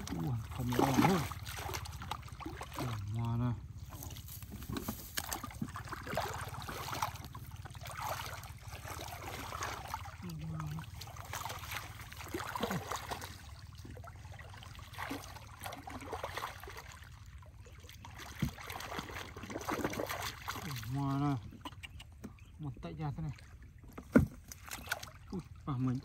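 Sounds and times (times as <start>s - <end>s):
muddy water sloshing and splashing: 0.0s - 26.0s.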